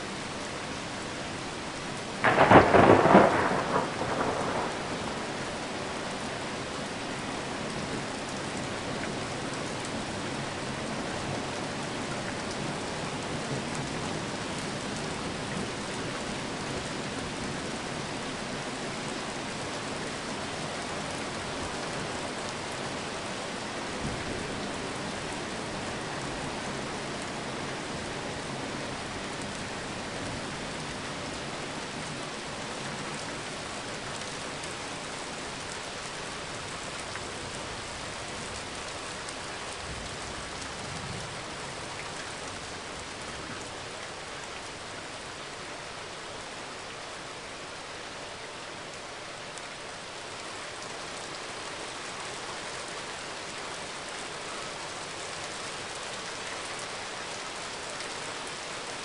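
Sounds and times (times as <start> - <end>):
rain falling on pavement: 0.0 - 59.0.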